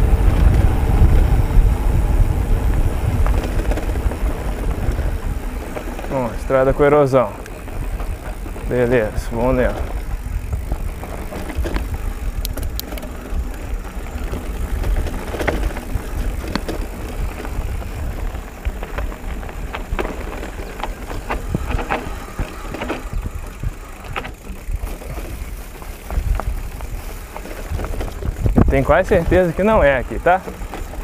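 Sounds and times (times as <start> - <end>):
bike rattling: 0.0 - 31.0
wind rumbling on microphone: 0.0 - 31.0.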